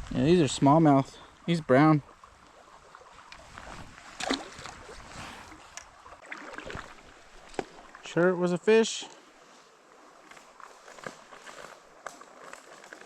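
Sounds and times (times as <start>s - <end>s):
creek water splashing: 0.0s - 13.0s.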